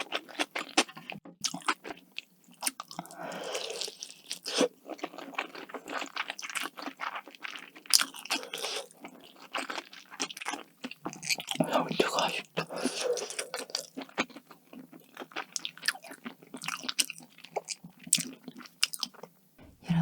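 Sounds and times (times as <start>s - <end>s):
crisp crunching and chewing: 0.0s - 19.3s.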